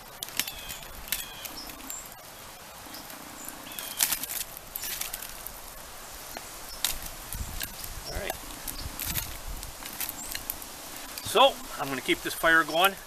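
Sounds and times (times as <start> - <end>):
wood scraping through burning logs: 0.0 - 13.0.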